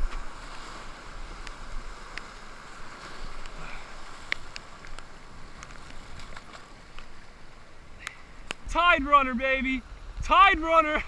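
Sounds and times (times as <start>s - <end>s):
wind rumbling on microphone: 0.0s - 10.8s
surf washing over boulders: 0.0s - 11.0s.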